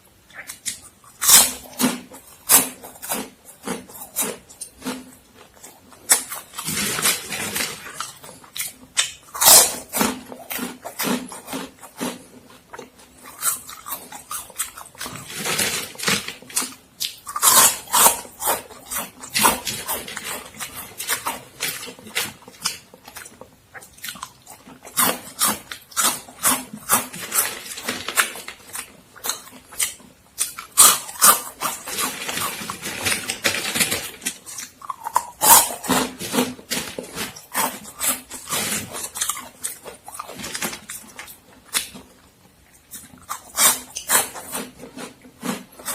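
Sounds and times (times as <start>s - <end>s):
crunching and chewing snacks: 0.3s - 45.9s.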